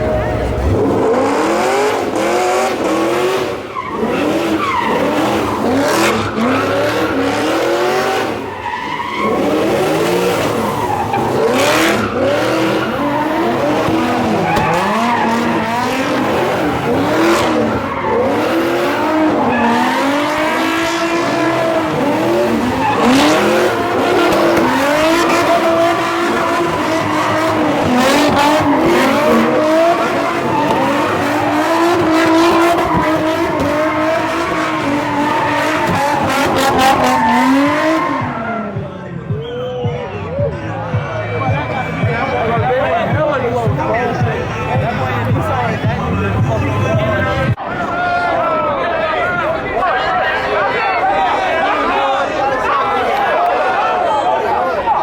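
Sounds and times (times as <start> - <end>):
car engines revving: 0.0 - 55.0
tires squealing: 0.0 - 55.0.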